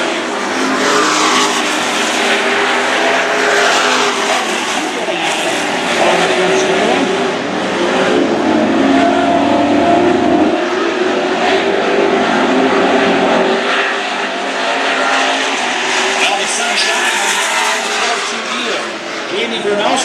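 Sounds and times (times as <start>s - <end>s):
race truck engines revving: 0.0s - 20.0s.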